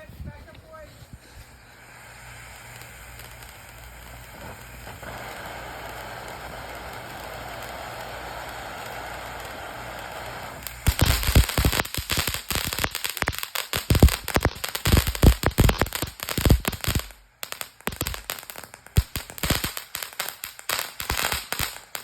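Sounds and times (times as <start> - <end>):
firework crackling pops: 0.0 - 22.0
firework hissing: 0.0 - 22.0.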